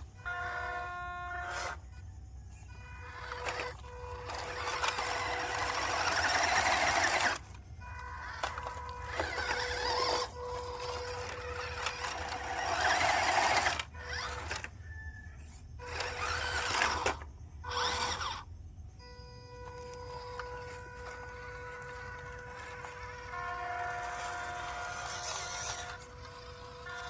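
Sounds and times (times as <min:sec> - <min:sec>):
rc car electric motor whirring: 0:00.0 - 0:27.0
wheels churning over rough ground: 0:02.6 - 0:15.0, 0:15.8 - 0:18.4, 0:19.5 - 0:27.0.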